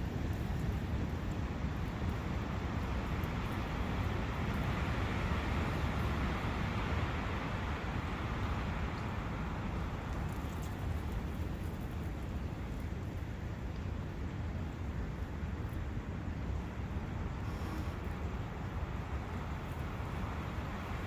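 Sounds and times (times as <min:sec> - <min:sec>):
brook running water: 0:00.0 - 0:21.0
wind through forest: 0:00.0 - 0:21.0.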